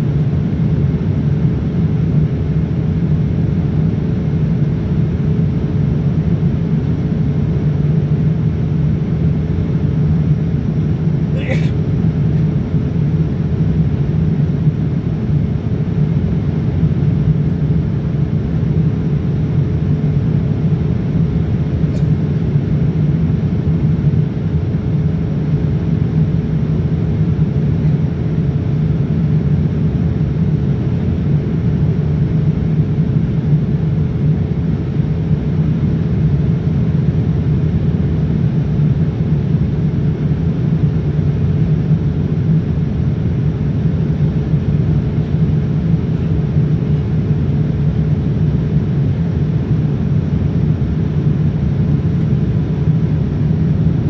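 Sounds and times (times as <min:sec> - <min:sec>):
airliner engines rumbling: 0:00.0 - 0:54.0
faint steady hum: 0:00.0 - 0:54.0.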